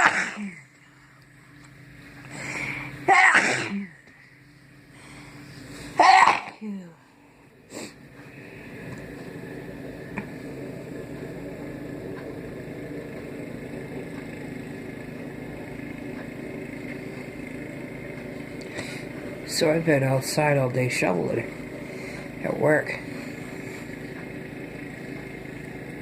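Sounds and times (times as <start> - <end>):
mechanical hum: 0.0 - 26.0.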